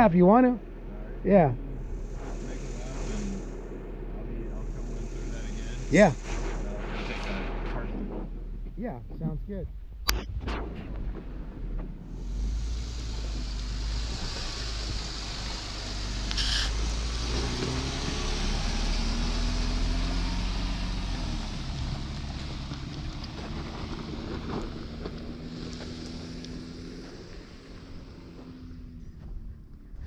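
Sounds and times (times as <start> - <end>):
off-road vehicle engine running: 0.0 - 30.0
steady hiss: 0.9 - 8.7, 12.0 - 29.0.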